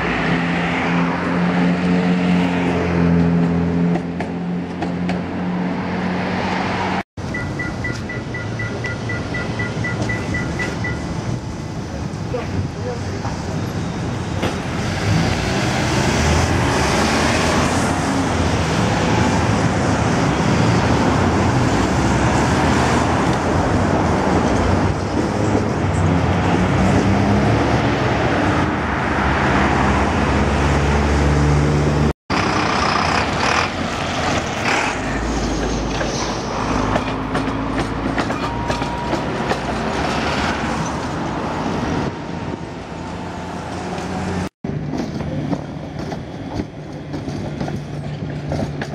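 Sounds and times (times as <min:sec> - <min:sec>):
road traffic passing: 0:00.0 - 0:48.9
trams running on track: 0:00.0 - 0:48.9.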